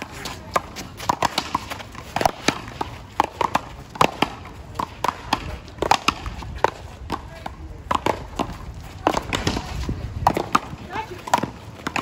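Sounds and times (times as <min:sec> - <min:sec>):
ball bouncing off concrete wall: 0:00.2 - 0:12.0.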